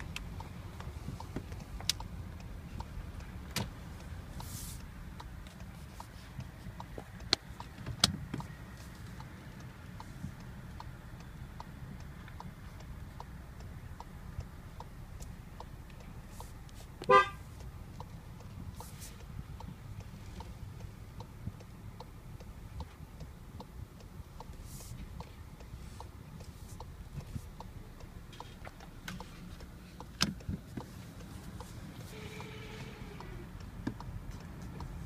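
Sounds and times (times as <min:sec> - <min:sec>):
car engine low hum: 0:00.0 - 0:35.0
sharp clicks and ticks: 0:00.0 - 0:35.0.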